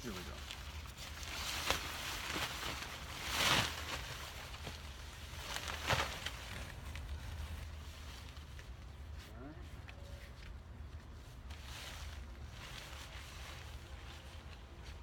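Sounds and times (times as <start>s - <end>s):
nylon tent fly rustling: 0.0s - 9.3s, 10.4s - 15.0s.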